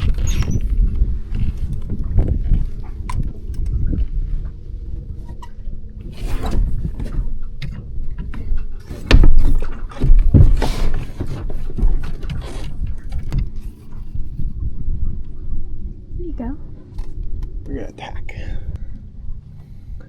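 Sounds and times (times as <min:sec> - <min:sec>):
water splashing against hull: 0:00.0 - 0:17.7
low wind rumble: 0:00.0 - 0:20.0.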